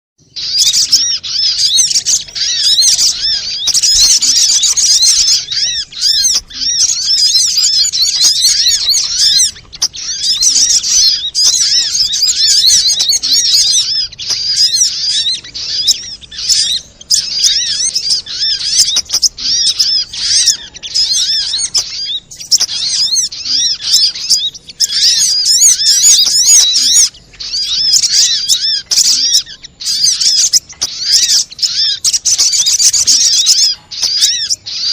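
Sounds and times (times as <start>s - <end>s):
bird rapid high chirping: 0.2s - 34.9s.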